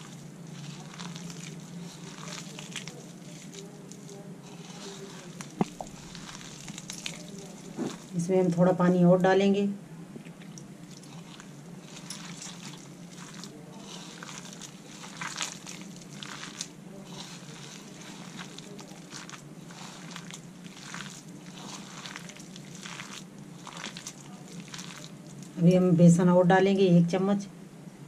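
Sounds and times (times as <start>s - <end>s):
hand squelching wet onions: 0.0s - 9.0s, 10.3s - 25.8s.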